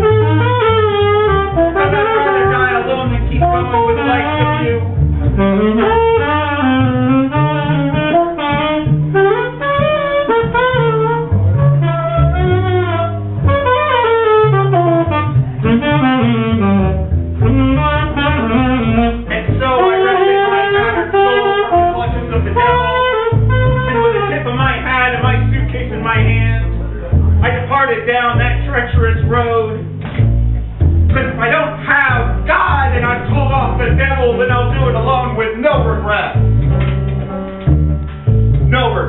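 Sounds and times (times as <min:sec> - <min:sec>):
piano: 0:00.0 - 0:39.0
saxophone improvising: 0:00.0 - 0:39.0
upright bass notes: 0:00.0 - 0:39.0.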